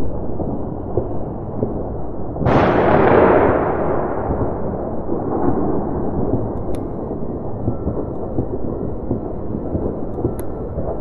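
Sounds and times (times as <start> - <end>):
distant fireworks booming: 0.0 - 11.0
low rumble: 0.0 - 11.0.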